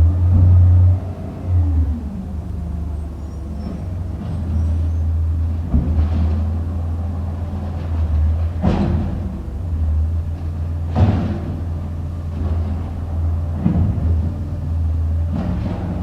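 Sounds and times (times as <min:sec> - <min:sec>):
garbage truck engine running: 0:00.0 - 0:16.0.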